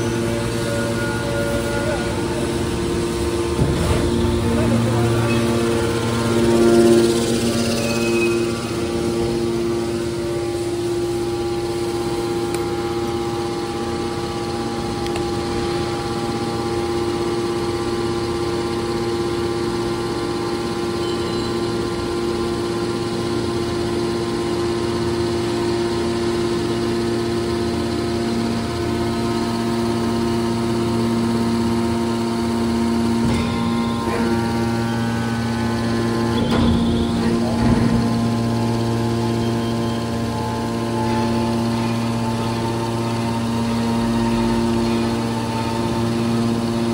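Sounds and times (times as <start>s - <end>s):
baler machinery humming: 0.0s - 46.9s.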